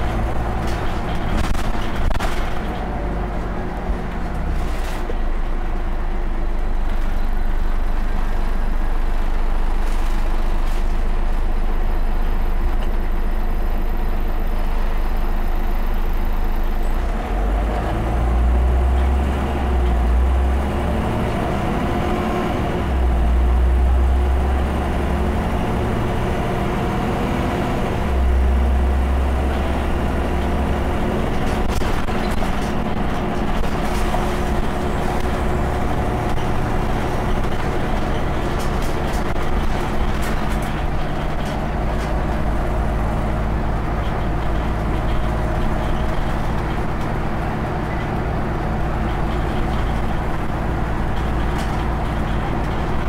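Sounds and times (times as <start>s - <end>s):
bus engine hum: 0.0s - 53.0s
road noise: 0.0s - 53.0s.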